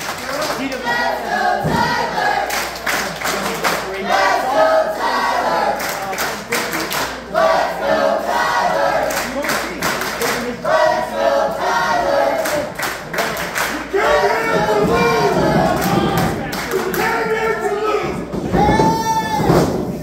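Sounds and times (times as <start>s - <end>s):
rhythmic clapping: 0.0s - 18.6s
crowd chanting in unison: 0.4s - 18.5s.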